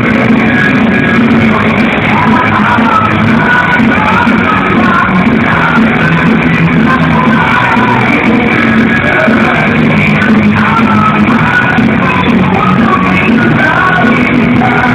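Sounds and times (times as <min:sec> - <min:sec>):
high sung vocals: 0:00.0 - 0:14.9
live heavy metal band: 0:00.0 - 0:14.9.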